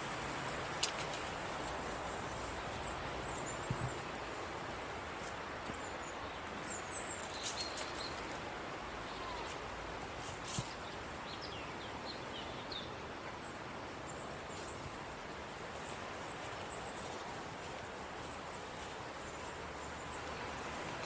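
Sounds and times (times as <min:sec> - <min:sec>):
outdoor background noise: 0:00.0 - 0:21.0
small birds chirping: 0:01.6 - 0:21.0.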